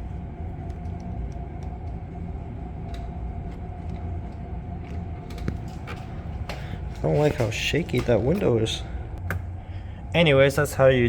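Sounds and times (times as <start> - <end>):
faint constant hum: 0.0 - 11.0.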